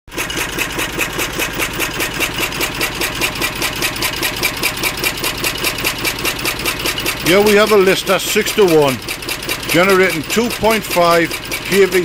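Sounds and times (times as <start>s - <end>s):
diesel engine running steadily: 0.1s - 12.0s.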